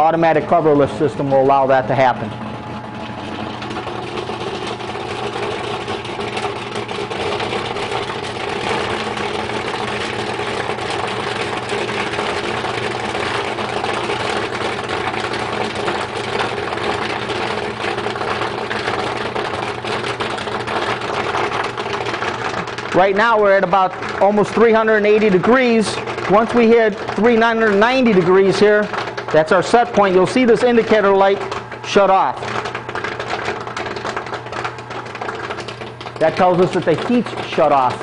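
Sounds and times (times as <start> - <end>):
popcorn kernels popping: 0.0 - 38.0
popcorn machine hum: 0.0 - 38.0.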